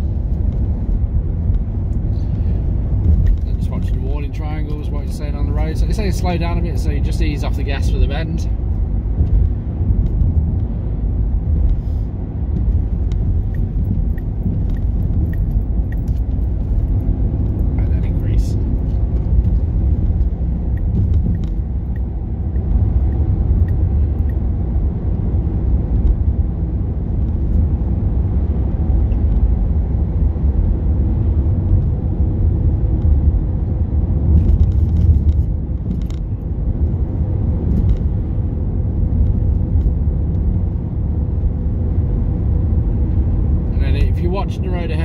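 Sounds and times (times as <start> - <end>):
car interior road rumble: 0.0 - 45.0.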